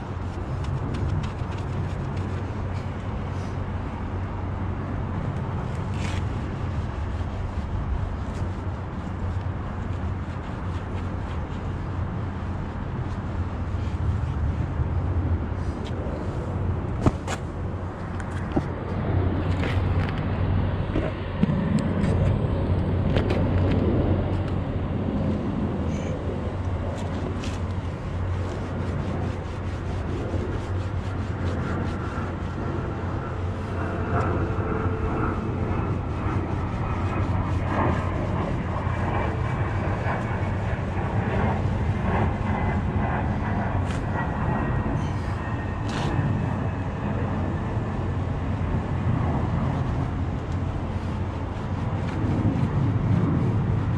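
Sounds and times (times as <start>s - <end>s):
low drone of vehicle engines: 0.0s - 53.9s.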